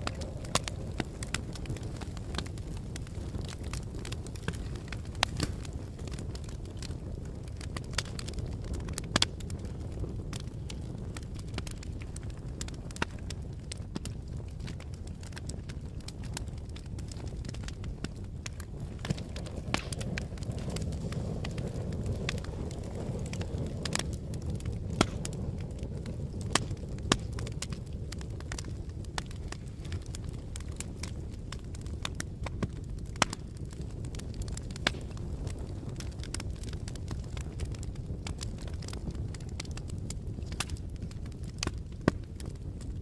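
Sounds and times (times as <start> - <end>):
low wind rumble: 0.0 - 43.0
wood fire crackling: 0.0 - 43.0.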